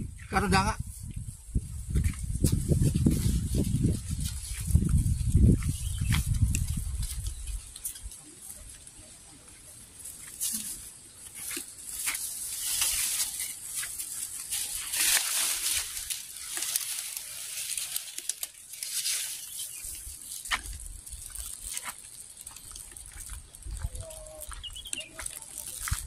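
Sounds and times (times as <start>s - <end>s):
footsteps on dry dirt path: 0.0s - 8.9s, 9.5s - 17.9s, 19.0s - 26.0s
leaves brushing: 0.4s - 26.0s.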